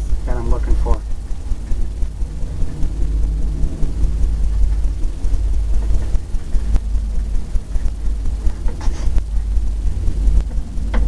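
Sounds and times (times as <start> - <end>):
faint hum: 0.0 - 11.0
steady low rumble: 0.0 - 11.0.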